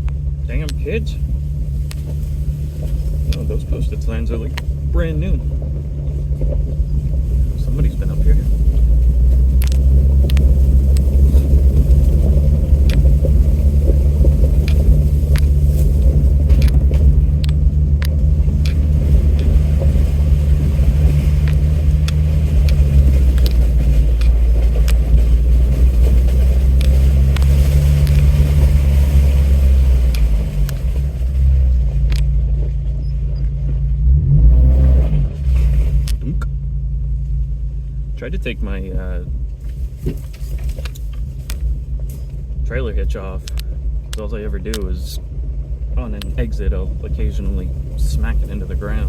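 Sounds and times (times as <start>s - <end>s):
vehicle engine rumble: 0.0s - 49.0s.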